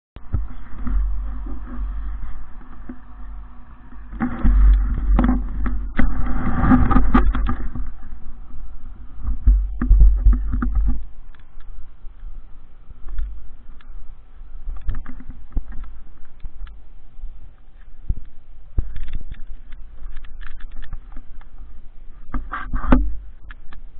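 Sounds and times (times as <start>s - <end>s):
heavy low rumble: 0.2s - 20.1s.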